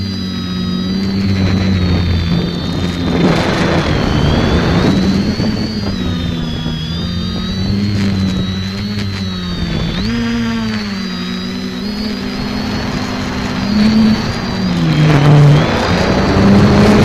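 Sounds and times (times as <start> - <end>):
quadcopter motors whining: 0.0 - 17.0
rushing noise: 0.0 - 17.0.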